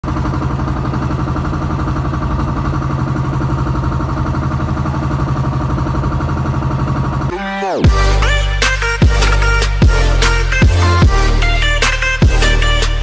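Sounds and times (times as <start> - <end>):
boat engine pulsing drone: 0.0 - 13.0.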